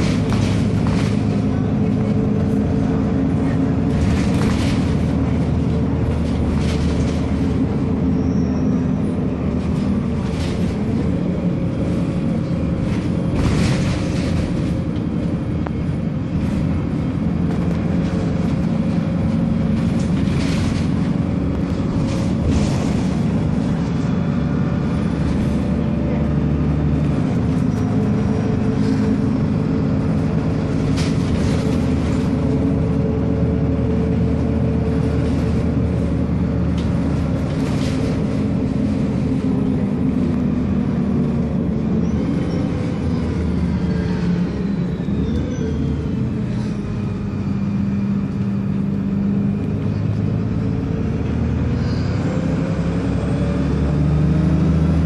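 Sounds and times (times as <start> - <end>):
bus diesel engine: 0.0 - 55.0
tyre and road noise: 0.0 - 55.0.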